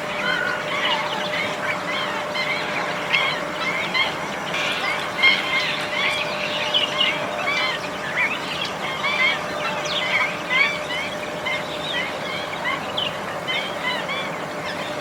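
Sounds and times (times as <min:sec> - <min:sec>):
faint steady hum: 0:00.0 - 0:15.0
flock of wetland birds calling: 0:00.0 - 0:15.0.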